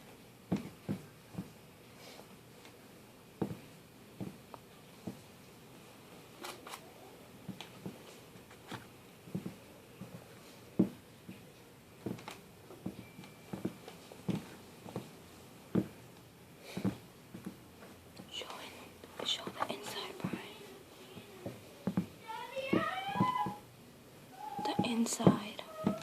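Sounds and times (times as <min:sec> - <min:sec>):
soft taps clicks and rustles: 0:00.0 - 0:01.6, 0:02.2 - 0:06.8, 0:07.4 - 0:23.6, 0:24.6 - 0:26.0.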